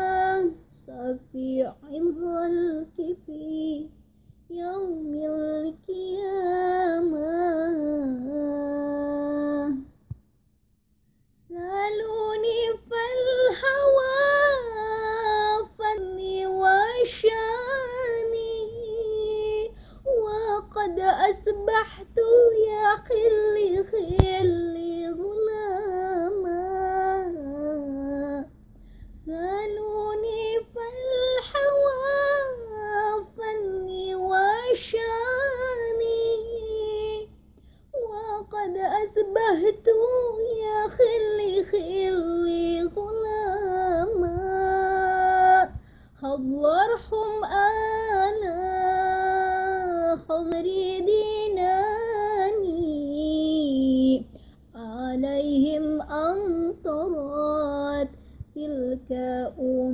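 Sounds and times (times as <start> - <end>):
woman singing unaccompanied: 0.0 - 10.0, 11.4 - 28.6, 29.2 - 37.4, 38.0 - 59.9.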